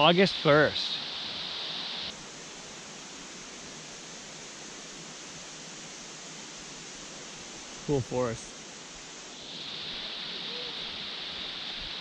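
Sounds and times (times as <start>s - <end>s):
high hiss: 0.0s - 12.0s
stream water rushing: 0.0s - 12.0s.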